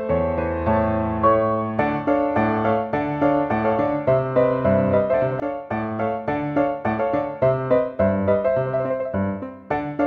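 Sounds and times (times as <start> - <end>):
background instrumental music: 0.0 - 10.0.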